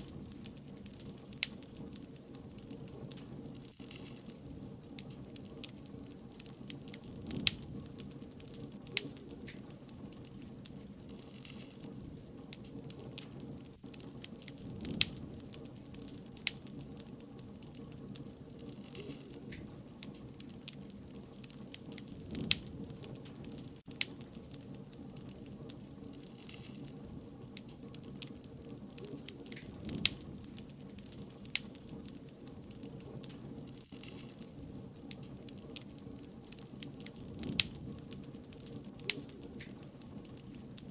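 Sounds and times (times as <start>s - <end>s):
bonfire flames rustling: 0.0s - 40.9s
fire crackles and pops: 0.0s - 40.9s.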